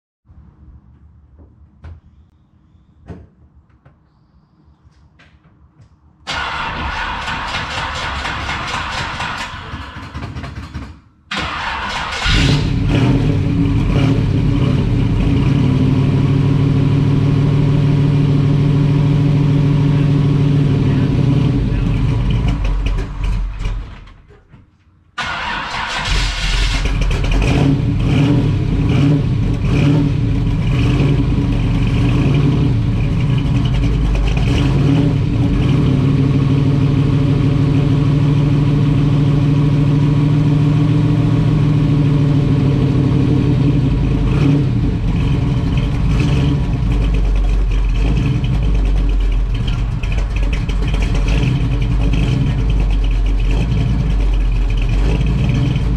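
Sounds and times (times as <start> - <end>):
car engine starting and idling: 6.2 - 24.5, 25.2 - 55.9
engine revving: 6.3 - 10.7, 11.3 - 24.0, 25.2 - 55.9.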